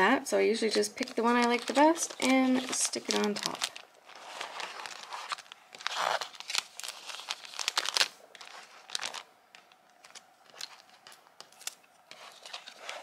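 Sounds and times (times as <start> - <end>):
paper sheets rustling and crackling: 0.7 - 13.0.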